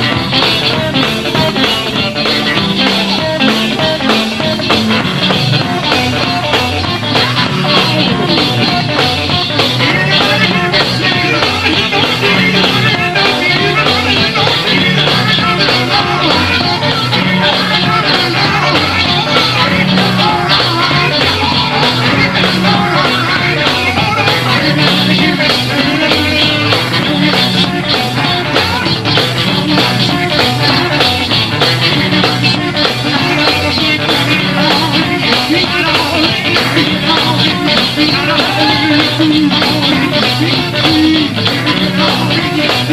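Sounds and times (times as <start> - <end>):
live gospel band music: 0.0 - 42.9.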